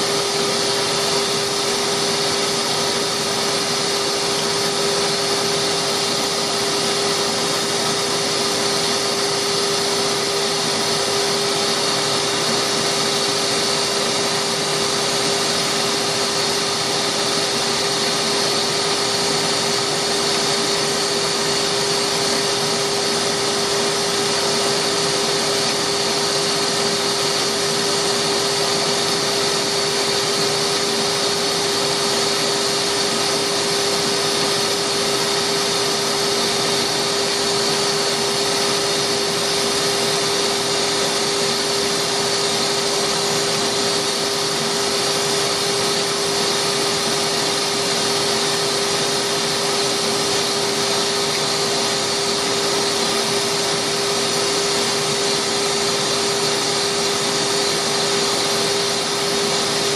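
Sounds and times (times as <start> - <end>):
wood lathe motor whine: 0.0 - 59.9.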